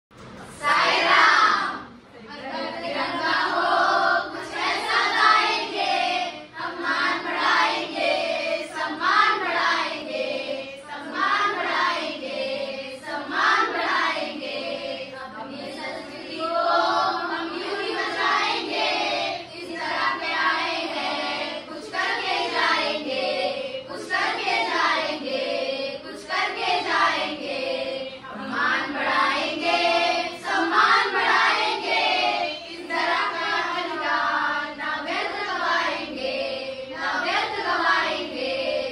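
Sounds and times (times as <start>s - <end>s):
choir of children and adults singing: 0.2s - 38.9s.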